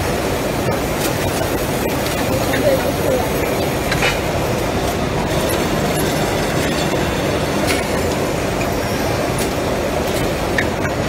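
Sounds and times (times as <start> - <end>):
machinery rumble: 0.0 - 11.0.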